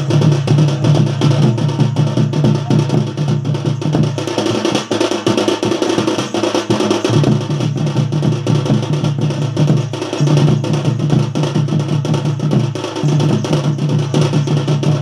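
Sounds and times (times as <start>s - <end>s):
barrel drums drumming fast: 0.0s - 15.0s.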